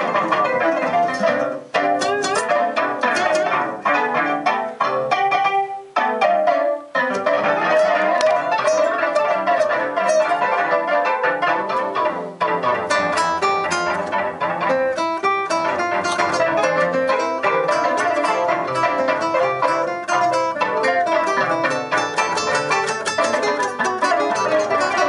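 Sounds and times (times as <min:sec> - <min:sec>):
rapidly plucked strings music: 0:00.0 - 0:25.0.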